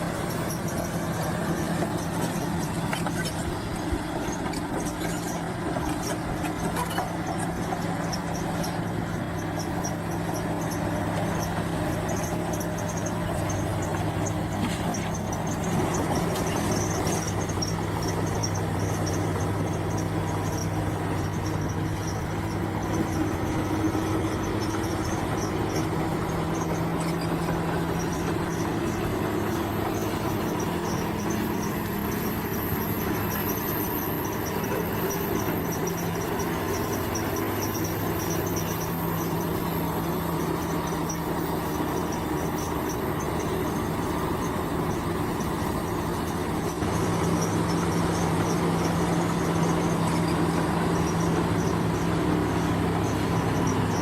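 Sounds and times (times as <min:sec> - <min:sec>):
bulldozer diesel engine running: 0:00.0 - 0:54.0
faint high squeaking: 0:00.0 - 0:54.0.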